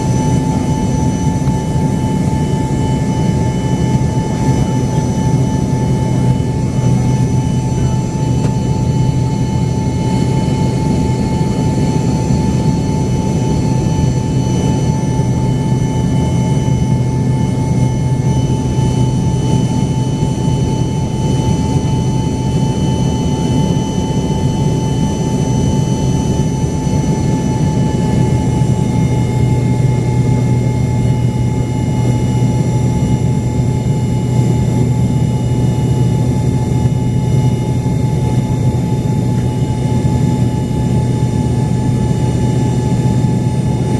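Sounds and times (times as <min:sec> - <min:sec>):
jet engine cabin hum: 0:00.0 - 0:43.9.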